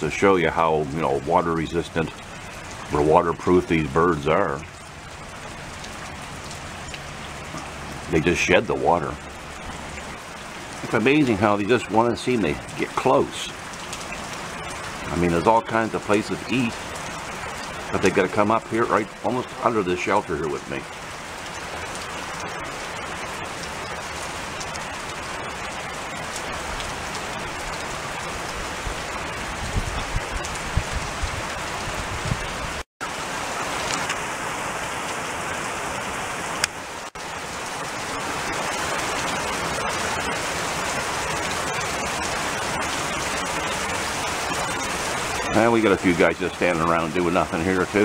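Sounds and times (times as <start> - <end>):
heavy rain: 0.0 - 48.0.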